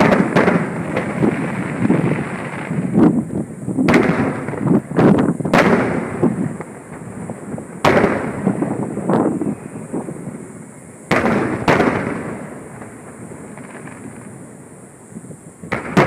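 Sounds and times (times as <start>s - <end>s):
fireworks bursting with rumble: 0.0s - 16.0s.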